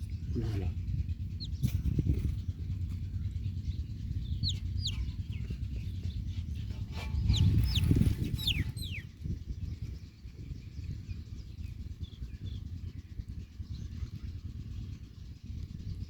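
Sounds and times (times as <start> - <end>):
baby chicks cheeping: 0.0 - 16.0
steady low rumble: 0.0 - 16.0.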